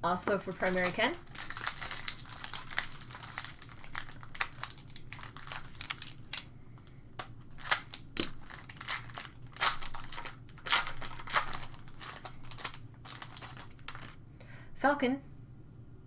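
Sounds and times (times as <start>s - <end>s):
cards being handled: 0.3s - 14.2s
card pack wrapper tearing: 0.5s - 6.5s, 7.2s - 14.2s.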